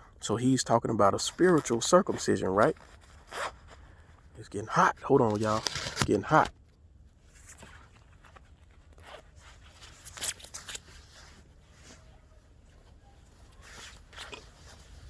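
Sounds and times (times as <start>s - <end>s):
rustling and scraping handling noises: 0.6s - 15.0s.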